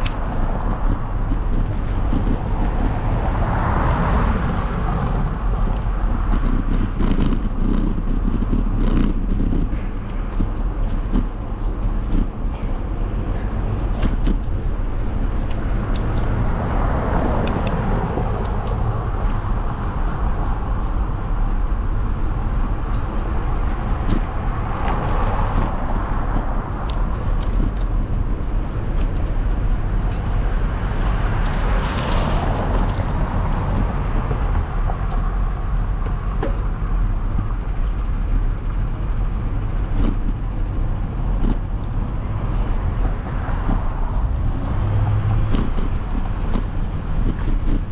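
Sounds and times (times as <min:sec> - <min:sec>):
road and wind noise: 0:00.0 - 0:47.9
vehicles passing: 0:00.0 - 0:47.9.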